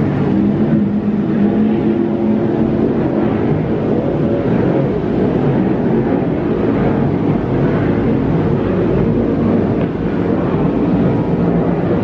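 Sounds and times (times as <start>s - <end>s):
powerboat engines droning: 0.0s - 12.0s.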